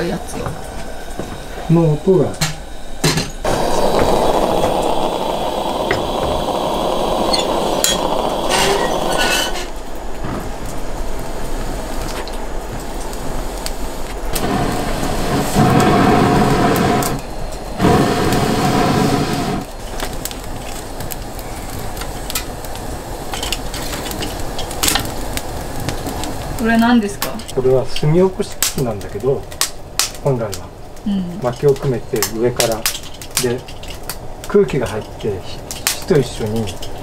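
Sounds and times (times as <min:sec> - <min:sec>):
gas lanterns hissing: 0:00.0 - 0:37.0
wood fire crackling: 0:00.0 - 0:37.0.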